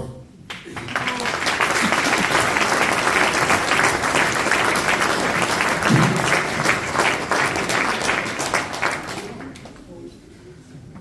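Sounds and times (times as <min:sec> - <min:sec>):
audience applauding: 0:00.5 - 0:09.8.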